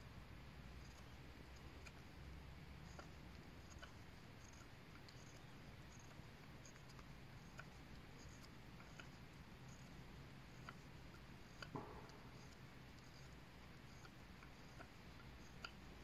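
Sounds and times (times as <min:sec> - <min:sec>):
knife shaving wood: 0:02.8 - 0:16.0.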